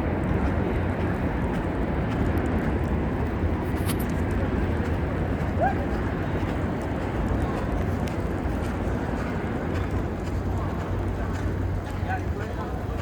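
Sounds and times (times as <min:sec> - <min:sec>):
low rumbling city noise: 0:00.0 - 0:13.0.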